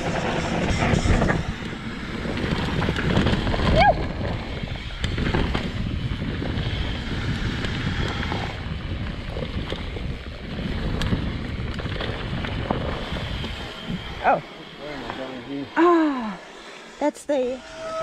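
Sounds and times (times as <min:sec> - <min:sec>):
bike rumbling over ground: 0:00.0 - 0:16.4
wind buffeting microphone: 0:00.0 - 0:16.4.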